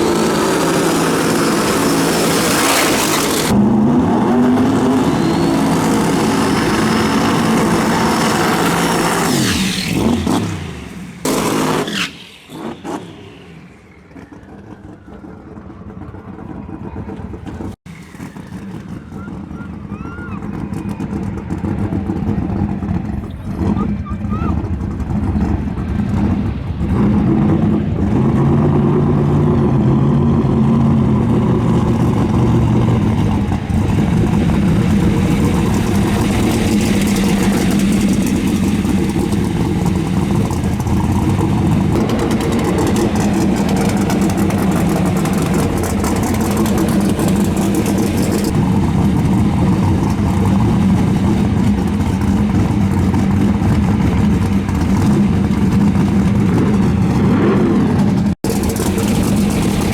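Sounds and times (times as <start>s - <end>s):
drag car engine running: 0.0s - 59.9s.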